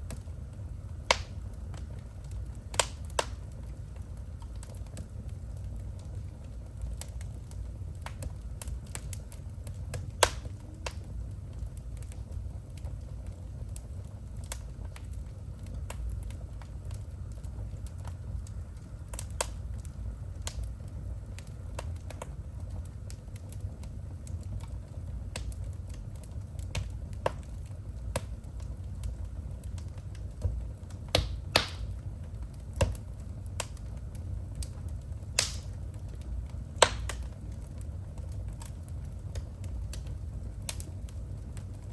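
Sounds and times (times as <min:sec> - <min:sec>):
fire crackling and popping: 0:00.0 - 0:41.9
fire rumbling: 0:00.0 - 0:41.9.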